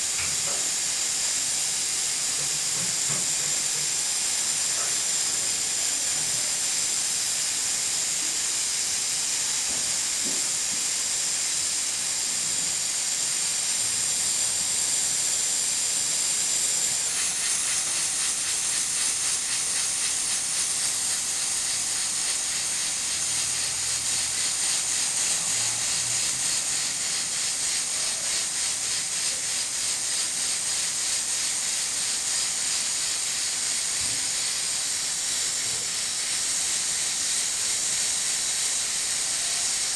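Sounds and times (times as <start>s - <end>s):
pressure cooker hissing: 0.0s - 39.9s.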